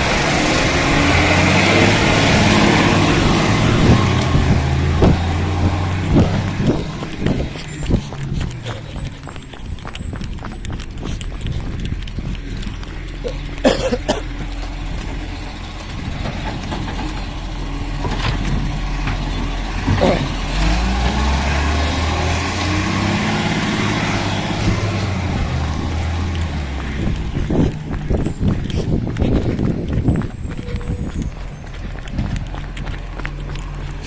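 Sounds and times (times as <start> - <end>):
garbage truck engine running: 0.0 - 32.6.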